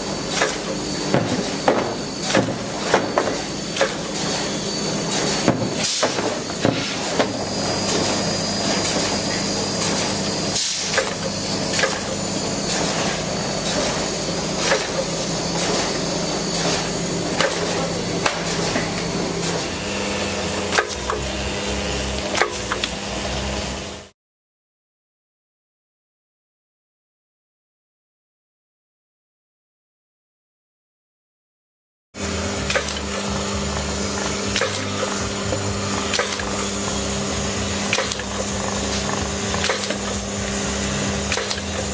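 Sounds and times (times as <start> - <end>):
motor and conveyor hum: 0.0 - 24.1, 32.2 - 41.9.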